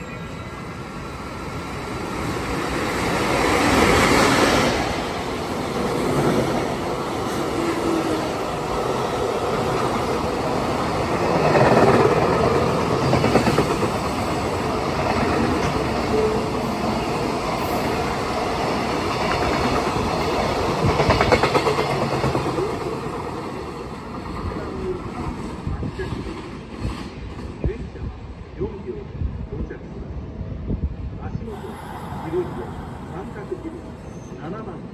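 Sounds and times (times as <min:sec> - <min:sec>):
train wheels rushing on rails: 0:00.7 - 0:28.1, 0:31.5 - 0:34.9.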